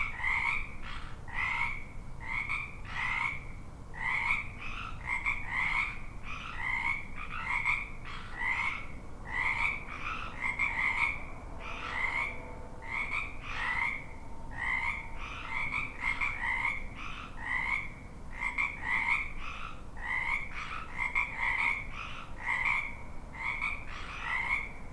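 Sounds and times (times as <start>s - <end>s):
frogs croaking: 0.0s - 24.9s.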